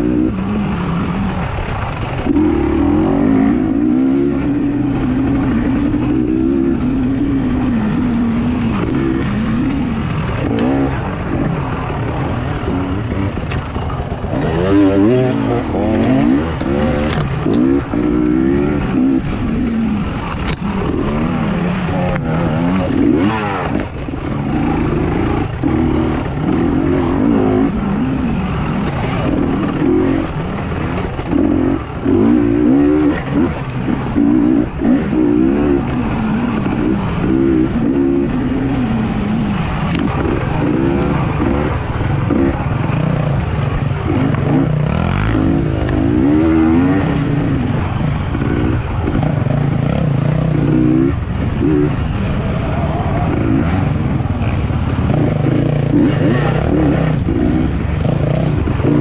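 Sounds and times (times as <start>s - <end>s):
motocross bike engines revving: 0.0s - 59.0s.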